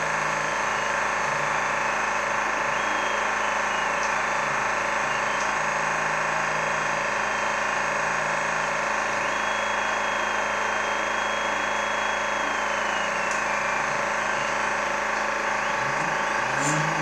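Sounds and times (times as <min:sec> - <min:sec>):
high whine: 0:00.0 - 0:17.0
machine fans and motors humming: 0:00.0 - 0:17.0.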